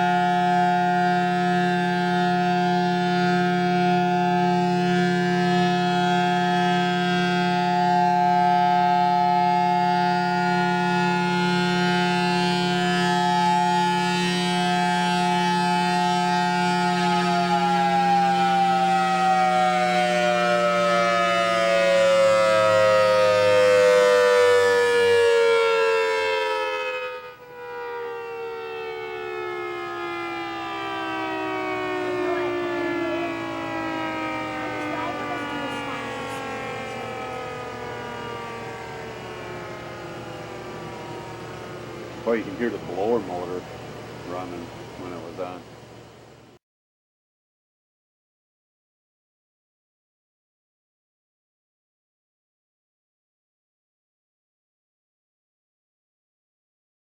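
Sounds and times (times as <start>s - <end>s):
warning siren chord: 0.0s - 46.6s.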